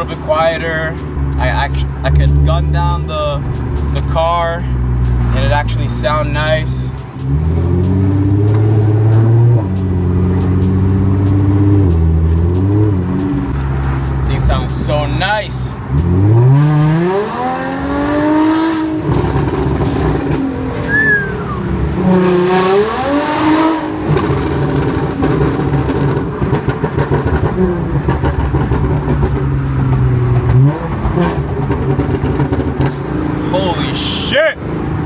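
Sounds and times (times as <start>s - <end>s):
car exhaust under acceleration: 0.0s - 35.0s.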